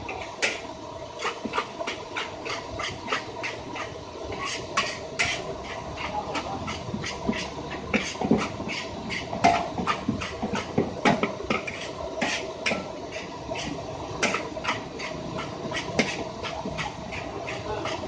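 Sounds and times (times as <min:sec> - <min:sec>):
metal spatula scraping a wok: 0:00.4 - 0:18.0.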